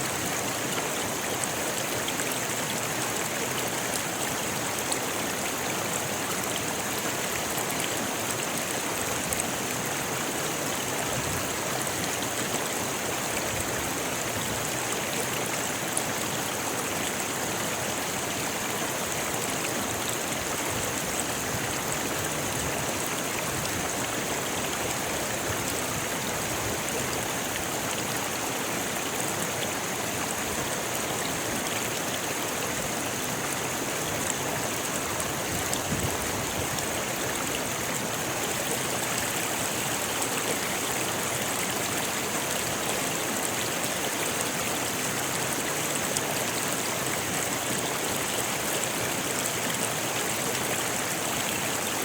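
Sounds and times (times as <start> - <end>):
water rushing over stones: 0.0 - 52.0.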